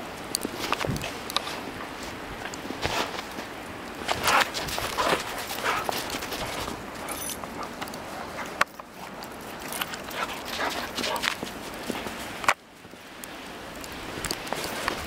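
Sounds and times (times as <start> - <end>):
dog paws crunching in snow: 0.1 - 15.0.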